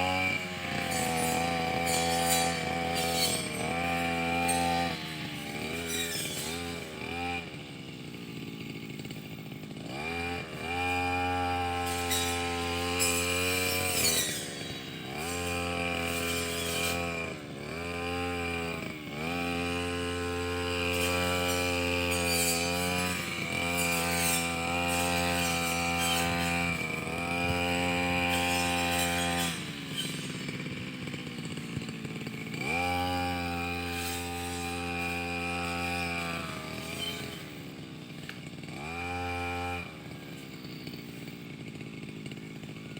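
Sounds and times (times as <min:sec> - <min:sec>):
brush cutter engine revving: 0:00.0 - 0:42.9.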